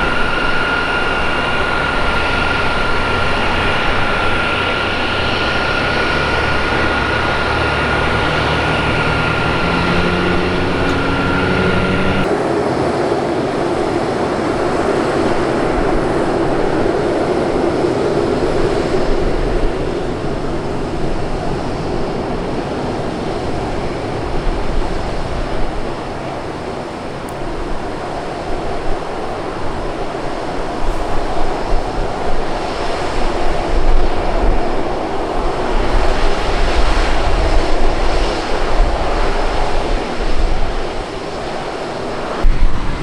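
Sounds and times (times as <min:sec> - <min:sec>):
aircraft engine roar: 0:00.0 - 0:43.0
aircraft engine whine: 0:00.0 - 0:43.0.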